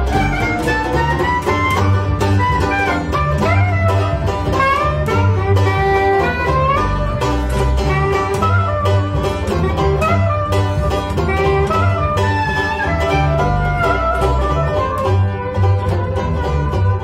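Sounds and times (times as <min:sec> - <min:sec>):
plucked double bass: 0:00.0 - 0:17.0
soprano saxophone melody: 0:00.0 - 0:17.0
strummed banjo: 0:00.0 - 0:17.0.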